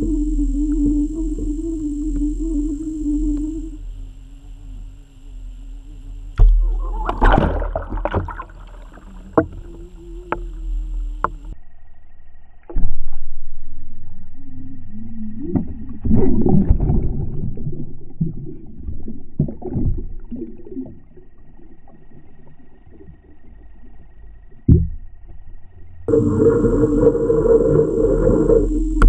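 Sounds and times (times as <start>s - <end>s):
muffled underwater water rush: 0.0s - 11.6s, 15.6s - 24.7s, 25.4s - 29.0s
faint wavering hum: 0.0s - 29.0s.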